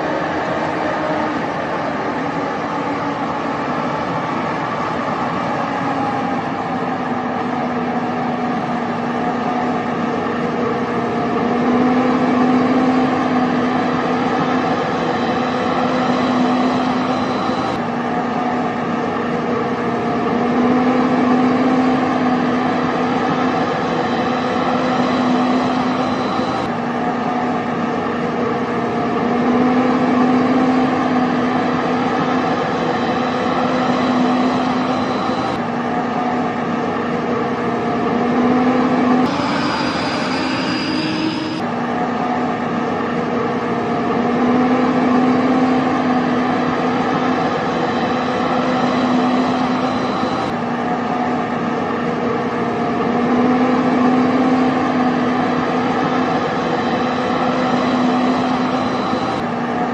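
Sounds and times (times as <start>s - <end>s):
motor drone: 0.0s - 59.9s.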